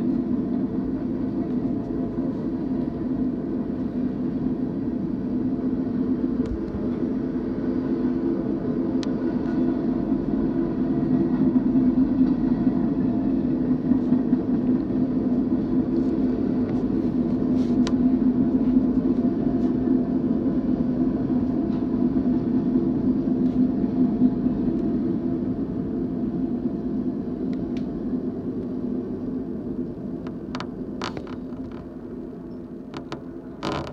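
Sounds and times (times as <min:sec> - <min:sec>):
steel wheels rumbling on rail: 0:00.0 - 0:33.9.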